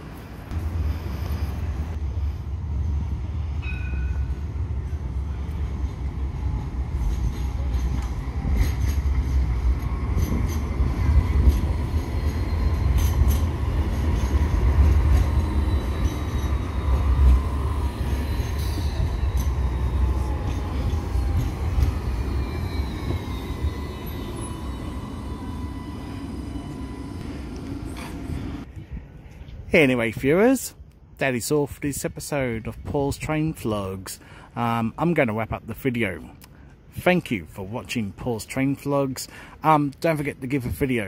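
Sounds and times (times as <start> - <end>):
tram passing with rumble and whine: 0.0 - 39.2.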